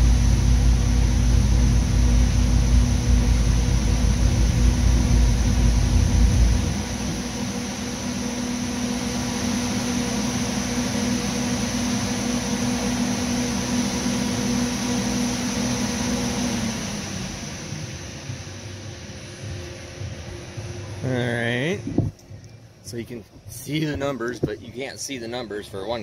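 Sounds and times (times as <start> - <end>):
engine rumbling low: 0.0 - 26.0
steady hum and hiss: 0.0 - 26.0.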